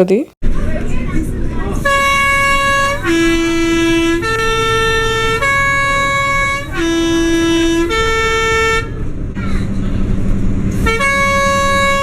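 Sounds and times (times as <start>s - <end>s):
three-tone bus horn: 1.8s - 12.0s.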